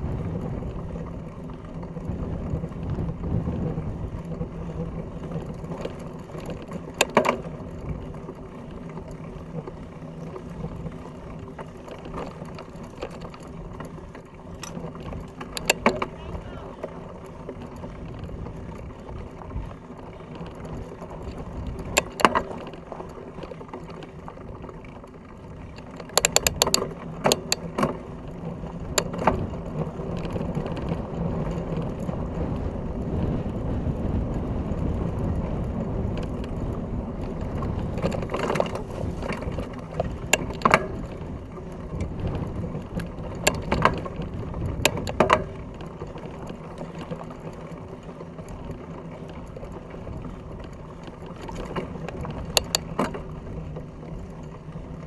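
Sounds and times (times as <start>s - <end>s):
bike tyres rumbling on dirt: 0.0s - 55.0s.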